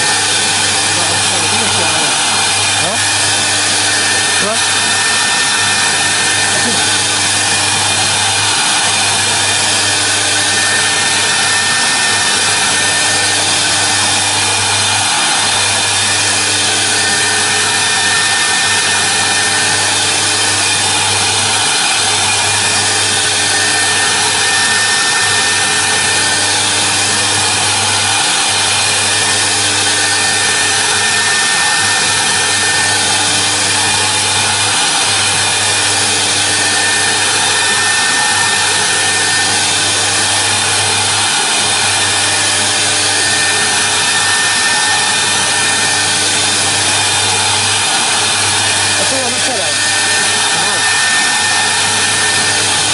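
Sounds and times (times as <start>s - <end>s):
cutting hiss: 0.0s - 52.9s
low hum: 0.0s - 52.9s
router spindle whine: 0.0s - 52.9s.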